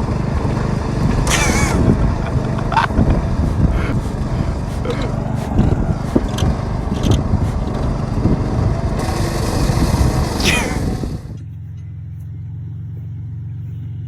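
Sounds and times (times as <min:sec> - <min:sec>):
lawnmower engine running rough: 0:00.0 - 0:13.5.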